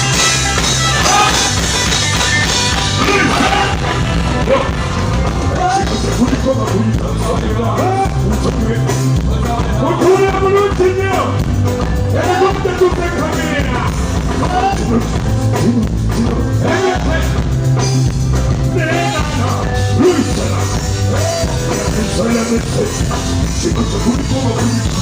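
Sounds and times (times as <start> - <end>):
person singing: 0.0 - 1.7, 2.8 - 11.4, 12.0 - 17.5, 18.6 - 25.0
amplified band music: 0.0 - 25.0
heavy bass line: 0.0 - 25.0.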